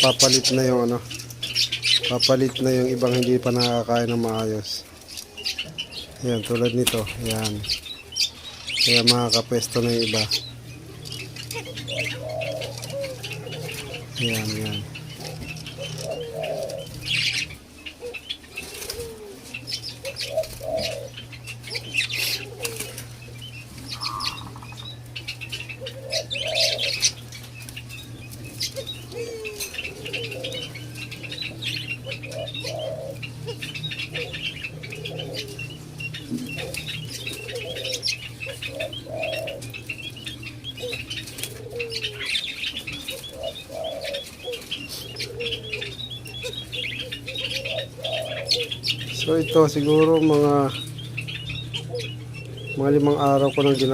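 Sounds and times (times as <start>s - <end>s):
doves cooing: 0.0s - 53.9s
doves fluttering wings: 0.0s - 53.9s
steady low hum: 0.0s - 53.9s
high chirping: 5.1s - 53.9s.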